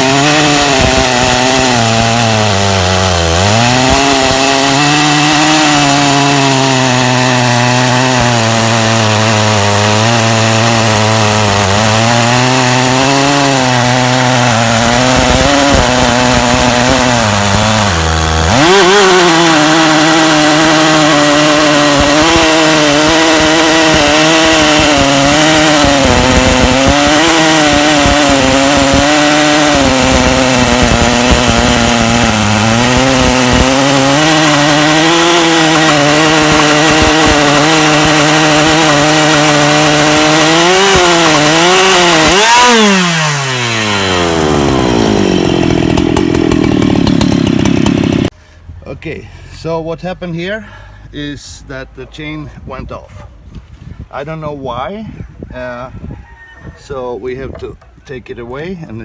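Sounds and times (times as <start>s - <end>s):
chainsaw cutting a log: 0.0s - 48.4s.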